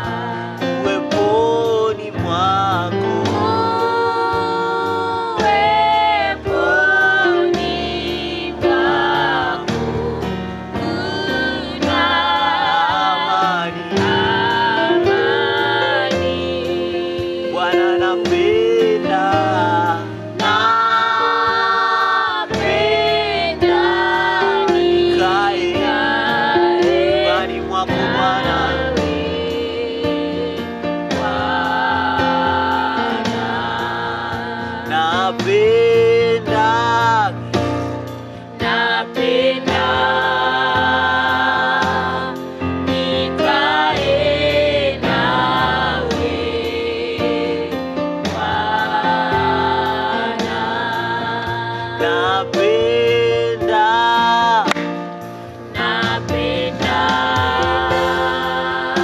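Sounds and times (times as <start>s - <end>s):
gospel group singing: 0.0s - 59.0s
instrumental backing: 0.0s - 59.0s.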